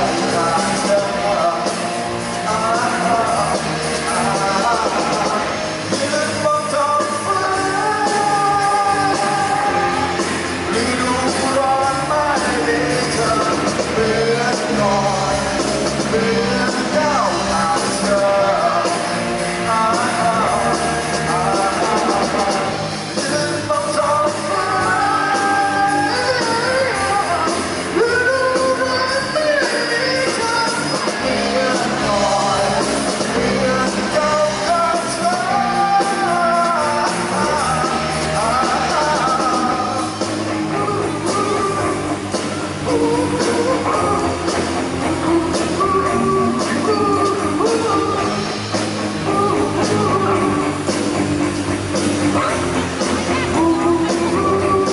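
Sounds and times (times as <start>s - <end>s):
bass guitar: 0.0s - 54.9s
drum kit: 0.0s - 54.9s
electric guitars: 0.0s - 54.9s
man singing: 0.0s - 54.9s.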